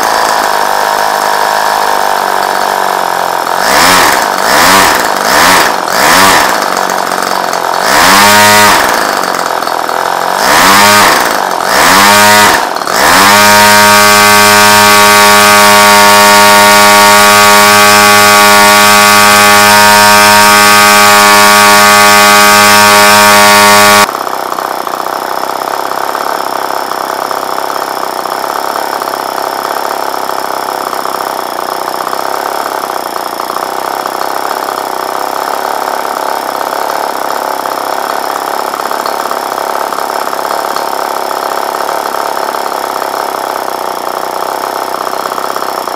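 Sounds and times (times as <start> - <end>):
model engine revving: 0.0 - 45.9.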